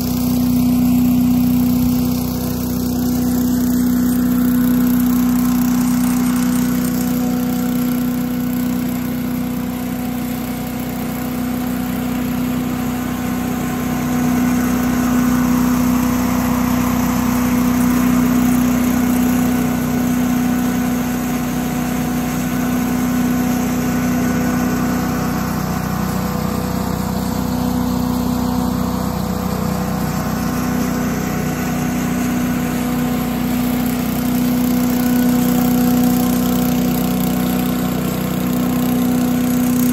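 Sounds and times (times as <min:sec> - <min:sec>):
leaf blower engine and fan running: 0:00.0 - 0:39.9
tractor running: 0:00.0 - 0:39.9.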